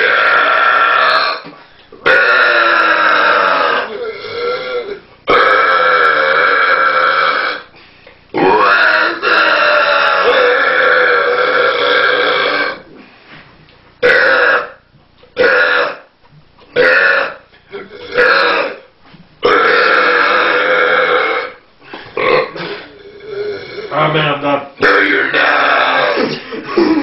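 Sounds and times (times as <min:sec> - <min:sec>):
person burping loudly: 0:00.0 - 0:07.7, 0:08.3 - 0:12.9, 0:14.0 - 0:16.1, 0:16.7 - 0:24.1, 0:24.8 - 0:27.0.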